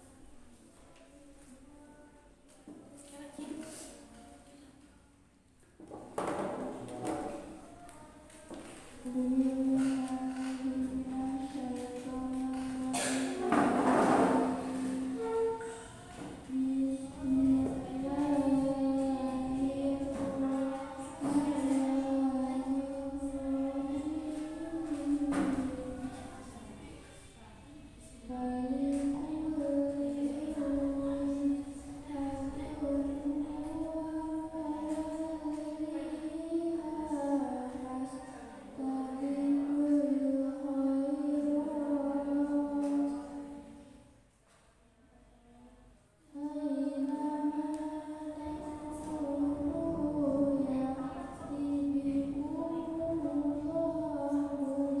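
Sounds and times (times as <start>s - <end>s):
girl reciting melodically into microphone: 0.0s - 5.3s, 6.2s - 55.0s.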